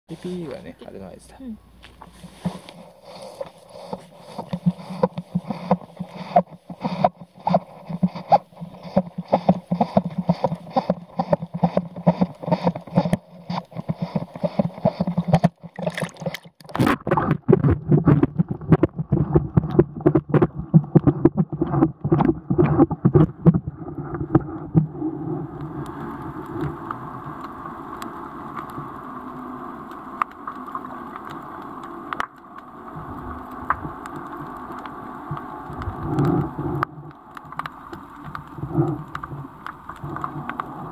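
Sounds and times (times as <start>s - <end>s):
water sloshing and gurgling: 2.1s - 28.9s, 30.2s - 40.9s.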